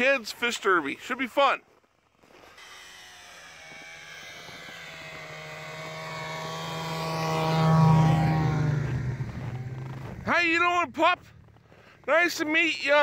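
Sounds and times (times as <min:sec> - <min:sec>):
snowmobile engine running: 0:02.2 - 0:13.0.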